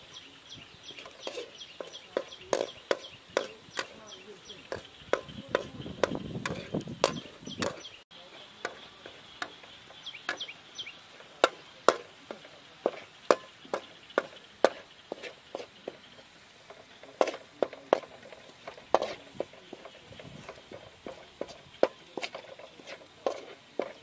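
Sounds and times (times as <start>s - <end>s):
garlic stir-frying: 0.0s - 24.0s.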